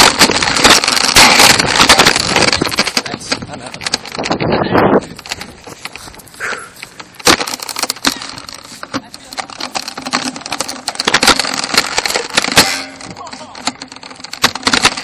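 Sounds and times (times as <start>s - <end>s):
toy blaster clicking and rattling: 0.0s - 4.4s, 6.8s - 15.0s.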